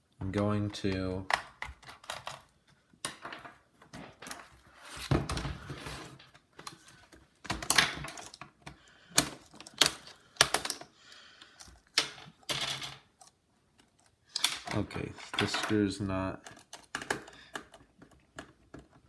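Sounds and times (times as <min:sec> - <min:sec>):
laptop parts clicking and knocking: 0:00.2 - 0:04.6, 0:06.2 - 0:19.0.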